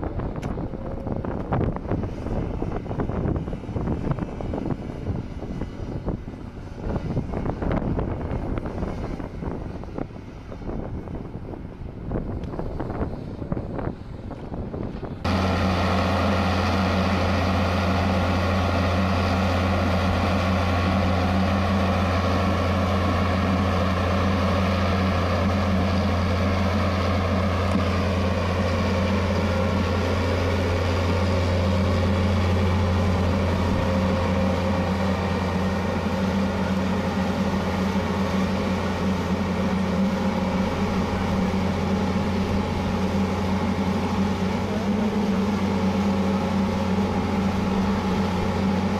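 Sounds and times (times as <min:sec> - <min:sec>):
diesel engine humming: 0:00.0 - 0:48.9.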